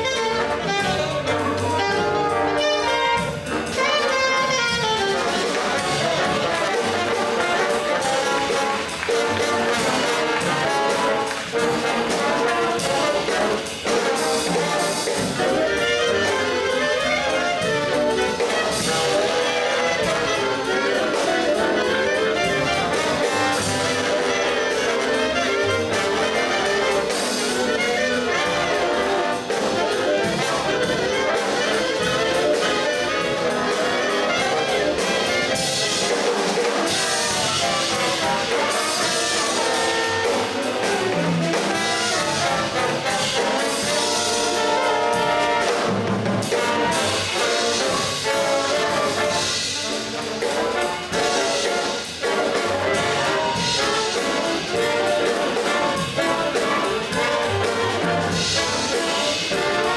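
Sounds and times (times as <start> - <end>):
jazz big band playing: 0.0 - 59.9.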